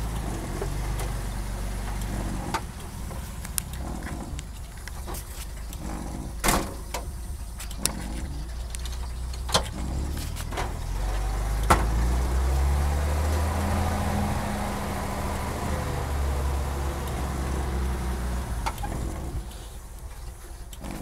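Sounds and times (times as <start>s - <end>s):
truck engine drone: 0.0s - 21.0s.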